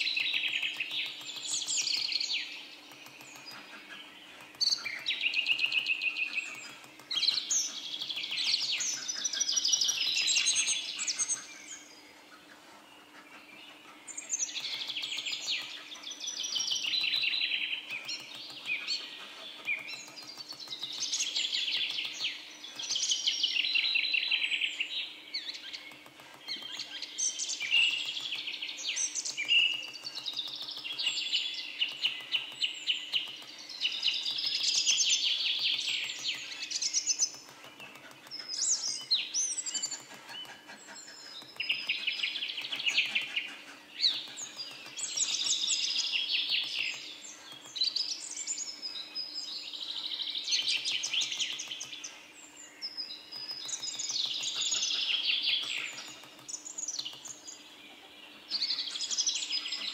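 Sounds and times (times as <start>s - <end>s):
songbird singing trills: 0.0s - 59.9s.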